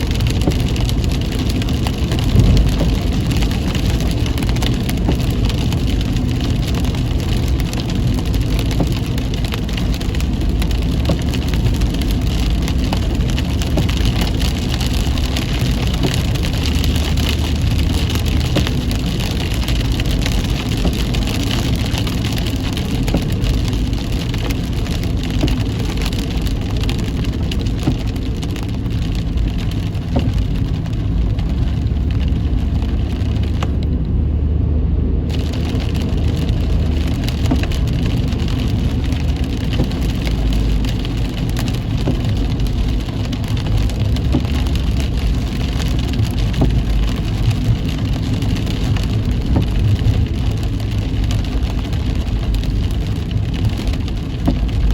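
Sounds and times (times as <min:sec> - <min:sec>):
car tyres rumbling on wet road: 0:00.0 - 0:54.9
heavy rain on car: 0:00.0 - 0:54.9.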